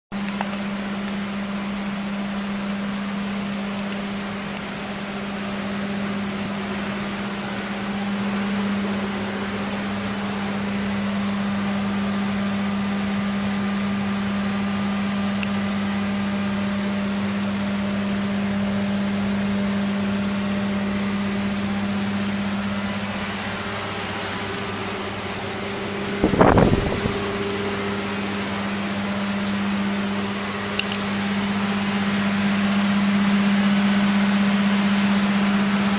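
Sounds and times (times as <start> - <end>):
car engine humming: 0.3 - 16.2, 17.7 - 35.9.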